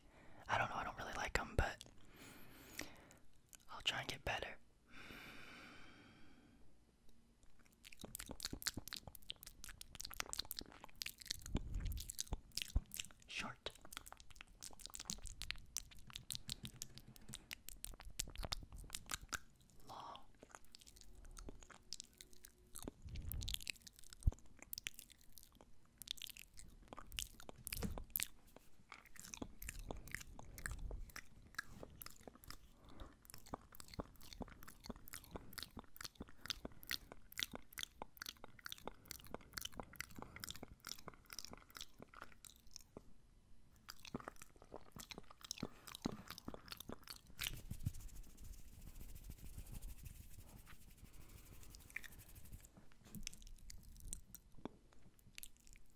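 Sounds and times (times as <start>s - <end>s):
wet lip and tongue smacks: 7.4s - 43.1s, 43.8s - 55.9s.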